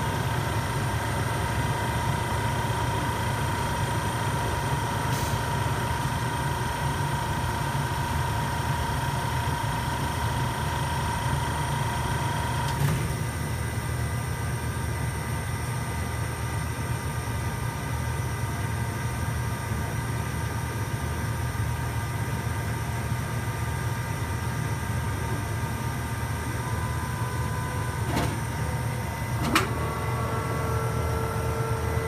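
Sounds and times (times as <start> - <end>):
oven low hum: 0.0 - 32.0.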